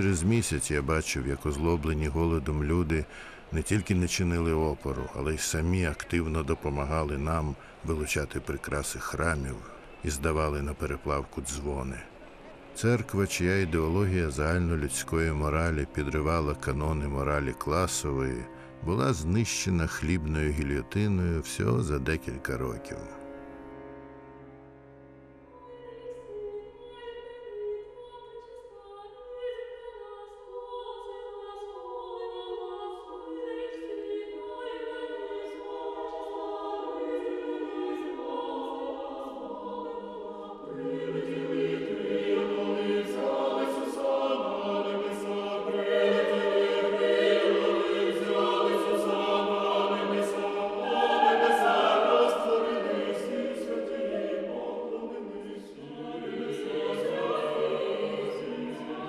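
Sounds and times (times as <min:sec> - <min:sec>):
choir singing slowly: 0:00.0 - 0:24.7, 0:25.5 - 0:59.0.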